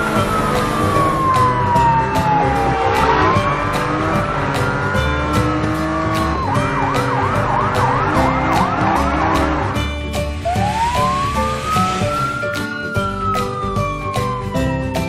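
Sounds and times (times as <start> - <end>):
background music with beat: 0.0 - 15.0
siren wailing and yelping: 0.2 - 9.7, 10.5 - 14.2.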